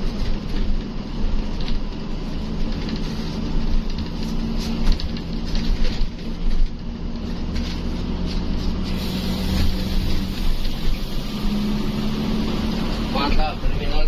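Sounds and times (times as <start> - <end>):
bus engine running: 0.0 - 14.0
road noise: 0.0 - 14.0.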